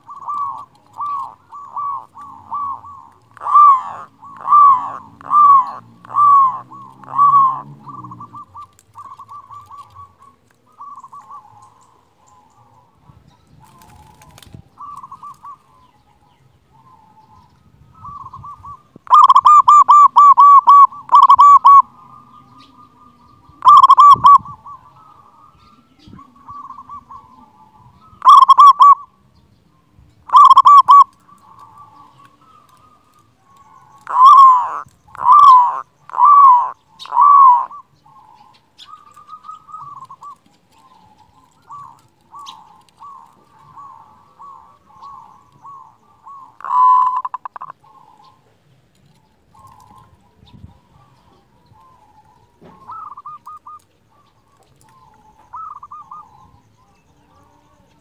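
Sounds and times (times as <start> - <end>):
dove cooing: 0.0 - 29.4, 30.3 - 58.0.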